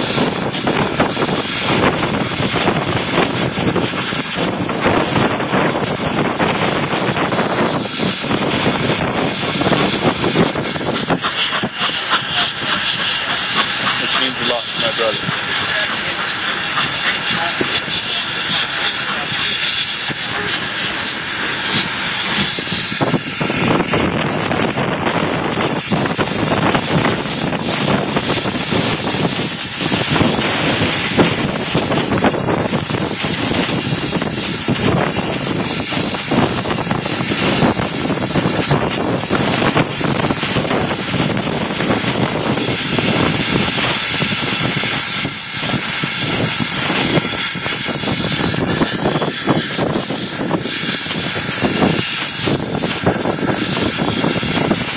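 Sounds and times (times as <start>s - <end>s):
steam locomotive exhaust and running: 0.0s - 54.9s.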